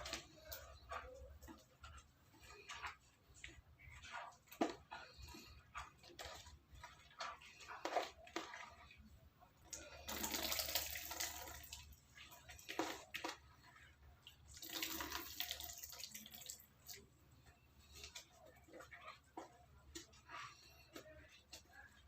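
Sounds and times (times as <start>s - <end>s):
wet squelching of hands kneading: 0.0s - 22.0s.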